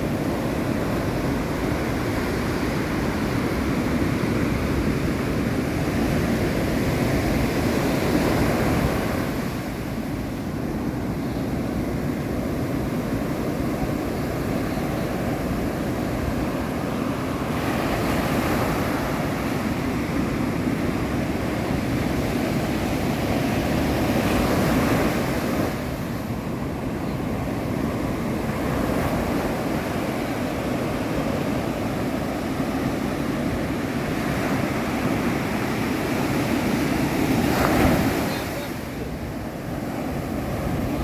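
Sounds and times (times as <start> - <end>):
ocean surf washing: 0.0 - 41.0
wind blowing over microphone: 0.0 - 41.0.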